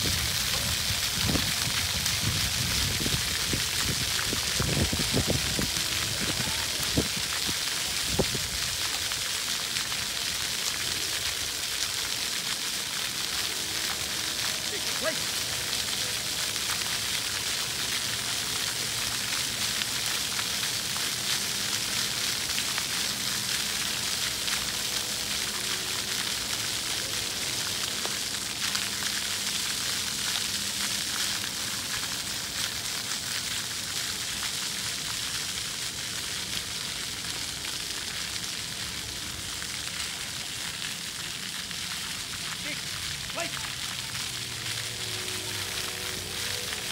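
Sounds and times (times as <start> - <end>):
fountain water spraying on concrete: 0.0 - 46.9.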